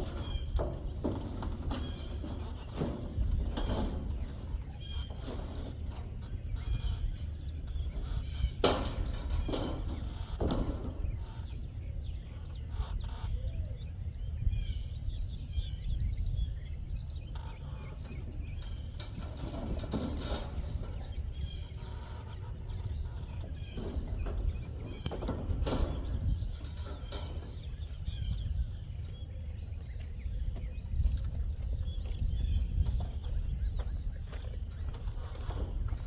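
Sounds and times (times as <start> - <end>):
birds chirping: 0.0 - 36.0
steady low rumble: 0.0 - 36.0.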